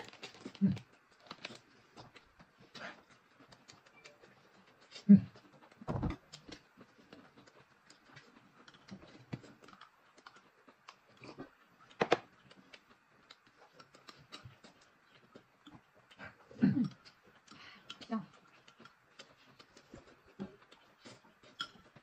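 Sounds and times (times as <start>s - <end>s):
chewing buns: 0.0s - 22.0s.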